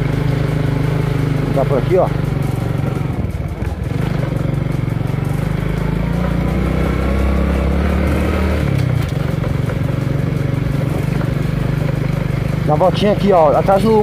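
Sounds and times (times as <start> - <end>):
motorcycle engine riding along: 0.0 - 14.0.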